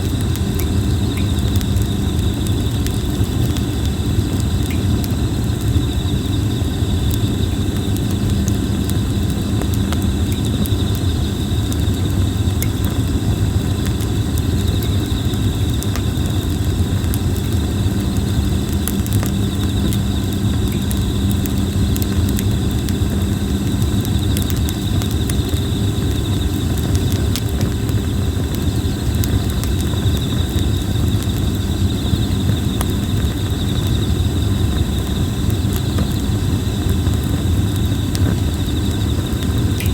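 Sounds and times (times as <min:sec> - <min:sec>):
campfire crackling and popping: 0:00.0 - 0:39.9
insects droning: 0:00.0 - 0:39.9
low fire rumble: 0:00.0 - 0:39.9.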